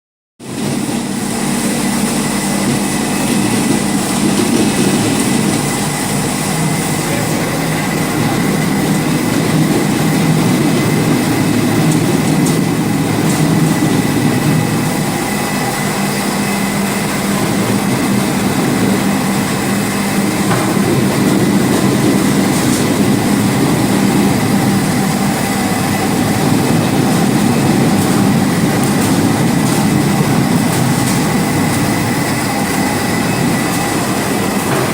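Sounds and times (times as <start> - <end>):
machinery rumble and rattle: 0.4 - 34.9.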